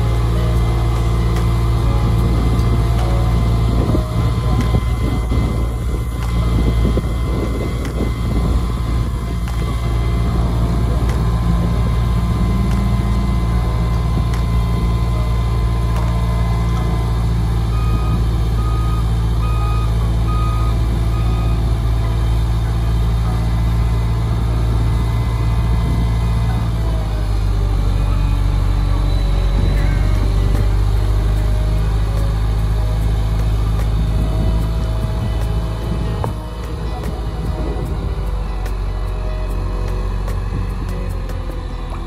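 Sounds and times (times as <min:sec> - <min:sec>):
crane diesel engine running: 0:00.0 - 0:42.0.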